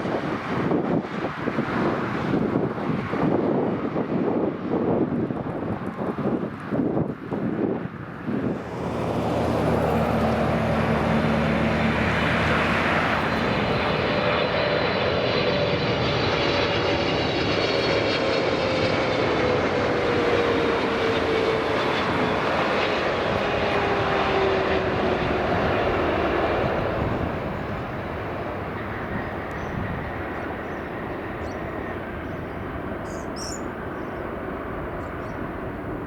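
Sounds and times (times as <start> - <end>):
jet engines roaring past: 0.0 - 36.0.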